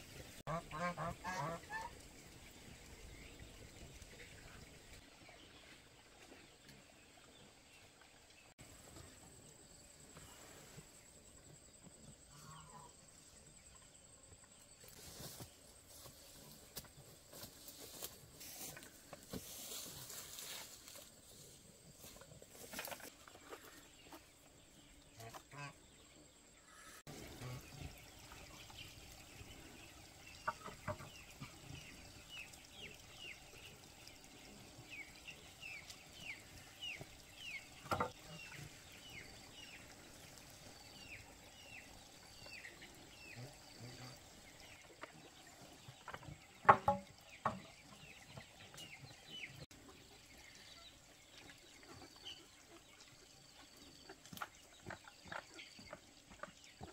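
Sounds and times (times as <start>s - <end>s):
birds chirping: 9.6s - 56.9s.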